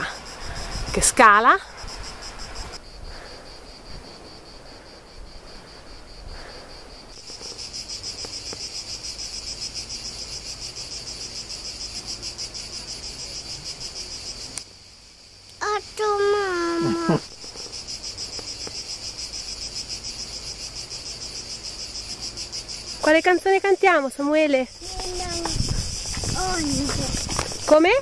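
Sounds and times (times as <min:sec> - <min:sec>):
insects singing in chorus: 0:00.0 - 0:28.0.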